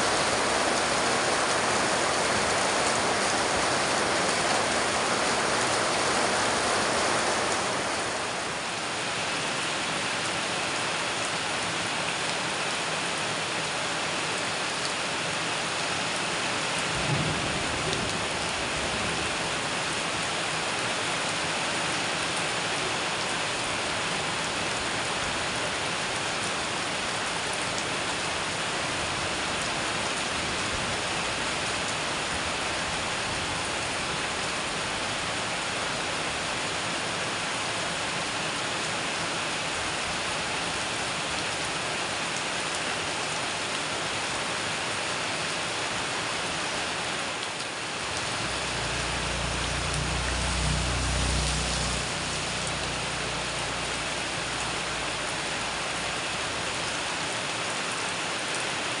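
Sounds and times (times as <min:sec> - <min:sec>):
heavy rain on metal roofs: 0:00.0 - 0:59.0.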